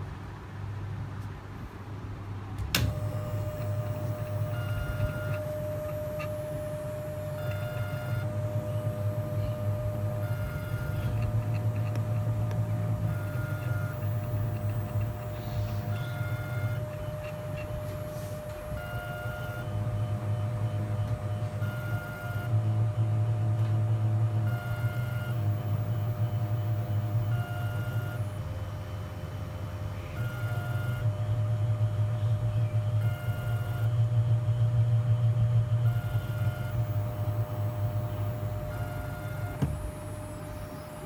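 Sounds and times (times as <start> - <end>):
drill motor hum: 2.8 - 41.0.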